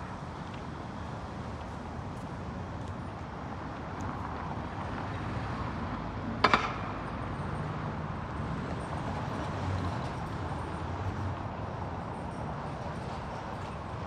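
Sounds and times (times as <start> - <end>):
distant traffic hum: 0.0 - 14.0.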